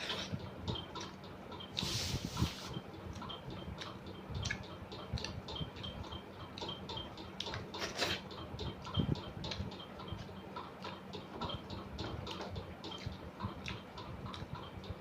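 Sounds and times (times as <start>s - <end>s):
person chewing with wet smacking: 0.2s - 1.9s, 2.6s - 15.0s.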